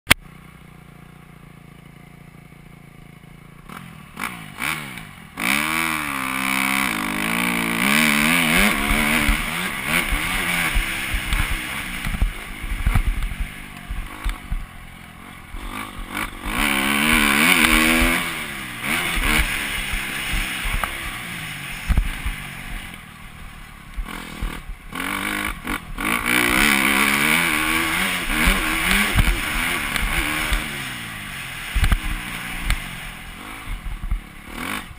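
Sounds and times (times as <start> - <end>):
motocross bike engine revving: 0.2 - 34.9.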